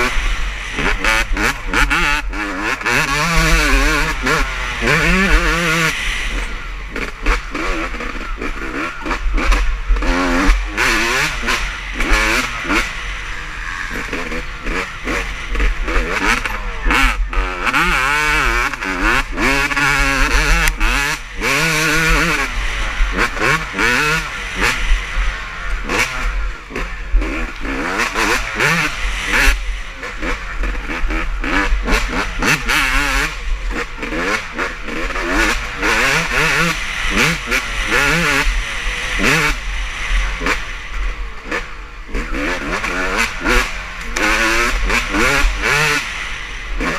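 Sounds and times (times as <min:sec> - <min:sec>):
motocross bikes revving: 0:00.0 - 0:46.9.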